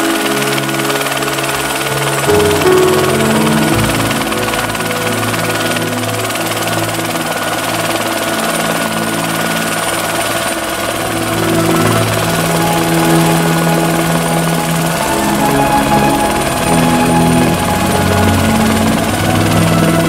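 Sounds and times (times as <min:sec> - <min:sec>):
helicopter rotor noise: 0:00.0 - 0:20.0
helicopter turbine whine: 0:00.0 - 0:20.0.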